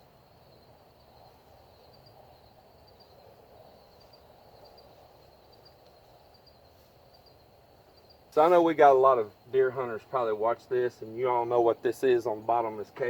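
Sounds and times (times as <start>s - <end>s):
insects chirping: 0.0s - 13.0s
low background hiss: 0.0s - 13.0s.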